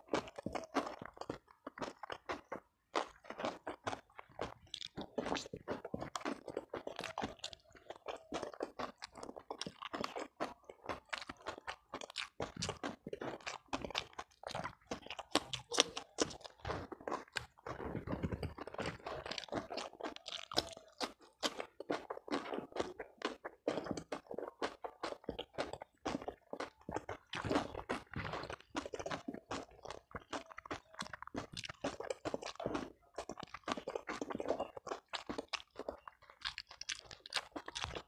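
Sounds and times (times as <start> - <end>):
person chewing crunchy food: 0.0 - 38.0.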